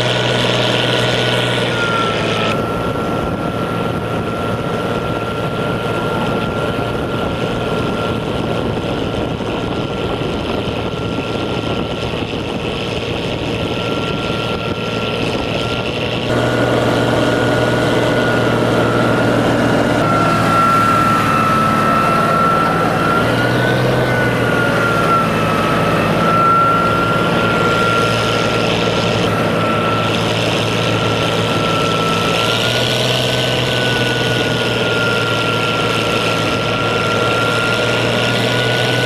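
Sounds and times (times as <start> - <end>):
boat engine drone: 0.0 - 39.0
thin steady whine: 0.0 - 39.0.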